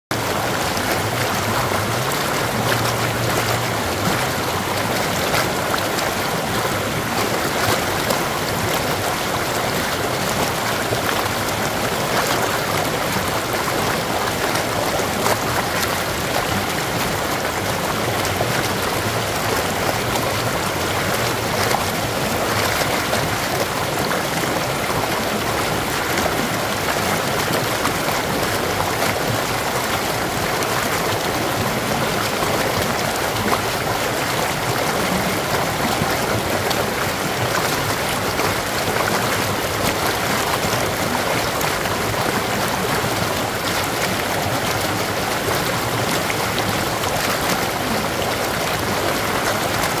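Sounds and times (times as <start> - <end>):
stream water rushing over rocks: 0.1 - 50.0.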